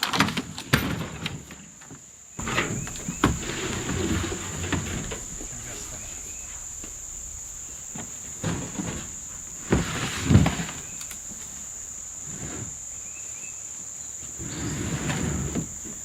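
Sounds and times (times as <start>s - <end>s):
insect chorus buzzing: 0.0s - 16.0s.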